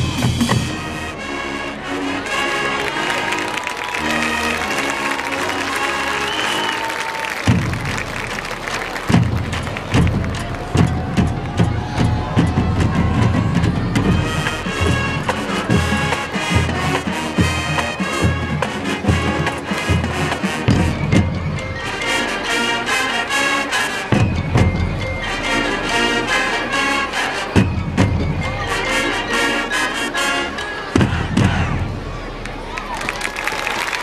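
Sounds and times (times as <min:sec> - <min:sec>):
brass chords: 0:00.0 - 0:32.7.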